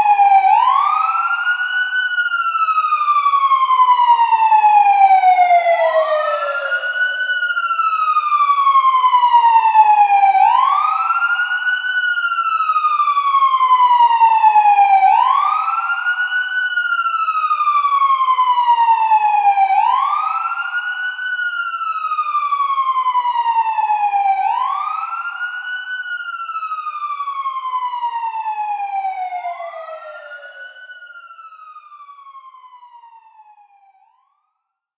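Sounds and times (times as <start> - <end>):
police siren wailing: 0.0 - 34.4.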